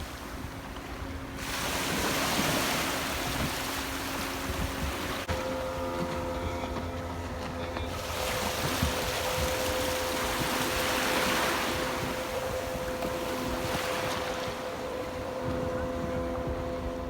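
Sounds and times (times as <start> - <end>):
wind on microphone: 0.0 - 5.5, 7.8 - 17.0
sea water washing: 0.0 - 17.0
steady motor hum: 0.0 - 17.0.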